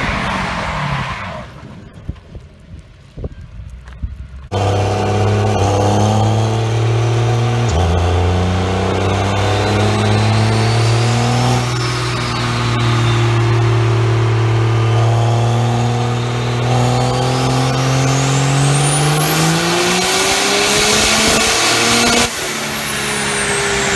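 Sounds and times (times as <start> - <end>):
high whine: 3.7 - 23.9
diesel engine under load: 4.1 - 23.9.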